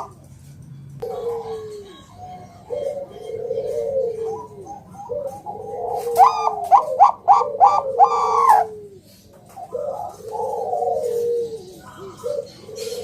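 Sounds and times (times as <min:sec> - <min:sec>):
doves cooing: 0:00.0 - 0:00.2, 0:01.0 - 0:13.0.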